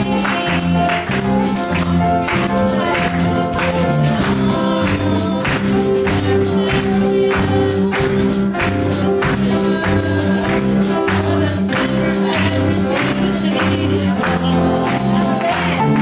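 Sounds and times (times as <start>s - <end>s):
woman singing into a microphone: 0.0s - 1.1s, 2.2s - 16.0s
gospel backing track: 0.0s - 16.0s.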